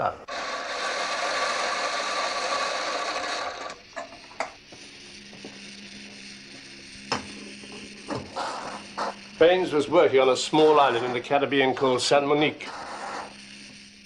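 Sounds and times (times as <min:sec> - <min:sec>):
coffee grinder whirring: 0:00.0 - 0:14.0.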